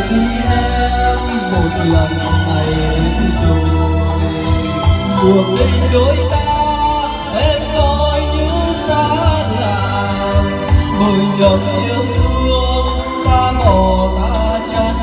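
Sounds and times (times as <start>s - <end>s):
song with heavy bass: 0.0s - 15.0s.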